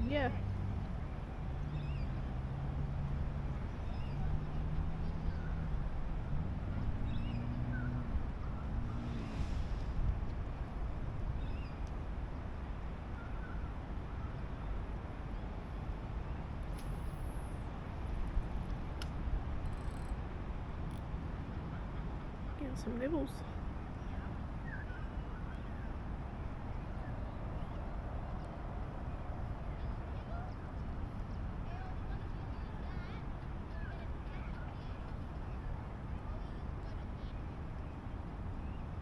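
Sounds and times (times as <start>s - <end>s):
outdoor noise haze: 0.0s - 39.0s.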